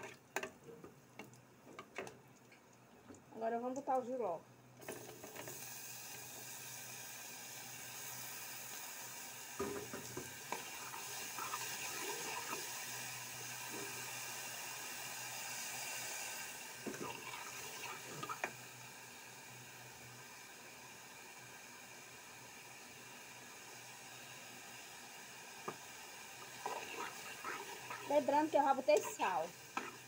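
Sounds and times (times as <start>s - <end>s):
food sizzling in hot oil: 4.8s - 30.0s.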